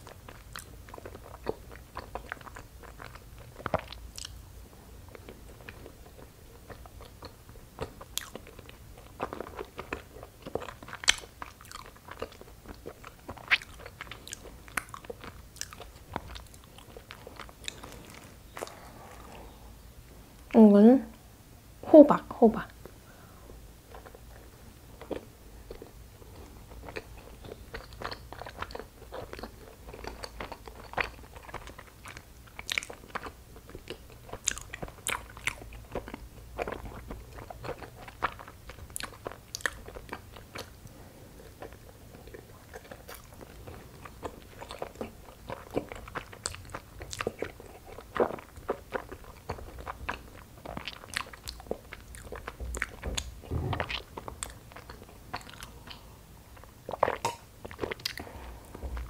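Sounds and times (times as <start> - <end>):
wet sticky chewing sounds: 0.0 - 4.4, 5.0 - 19.6, 23.8 - 59.0.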